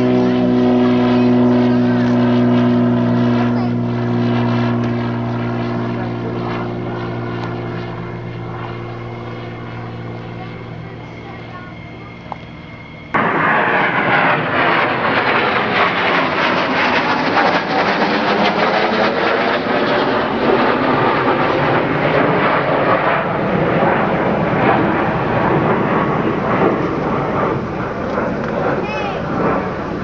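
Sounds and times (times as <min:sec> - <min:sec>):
airplane engine in flight: 0:00.0 - 0:30.0.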